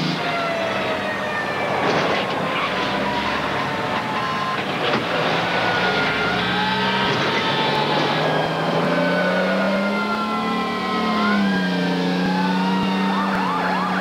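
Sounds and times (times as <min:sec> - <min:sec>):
fire engine sirens wailing: 0:00.0 - 0:14.0.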